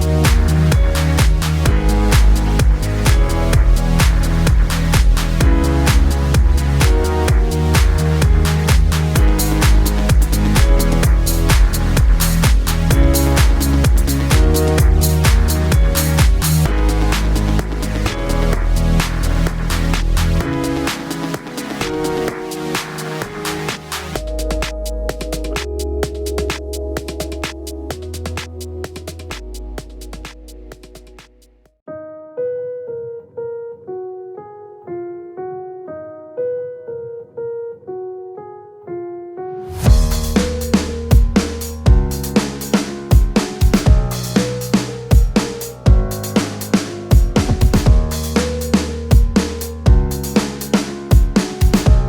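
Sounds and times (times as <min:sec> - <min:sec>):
electronic dance music: 0:00.0 - 0:31.6, 0:39.8 - 0:52.0
slow piano melody: 0:00.0 - 0:52.0.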